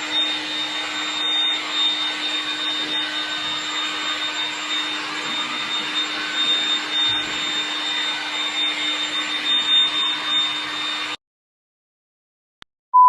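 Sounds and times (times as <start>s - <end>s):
machine whirring with whine: 0.0s - 11.2s.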